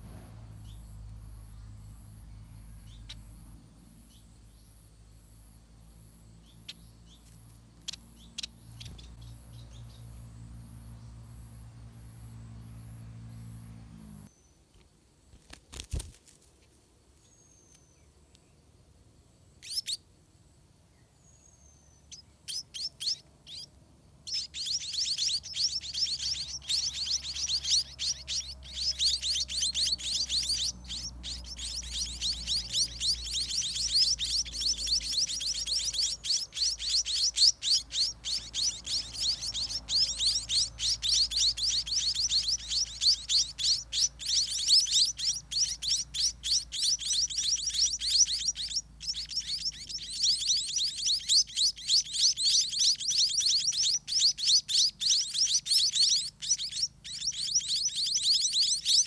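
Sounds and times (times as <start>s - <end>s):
bird chicks chirping: 0.0s - 14.3s, 19.5s - 59.0s.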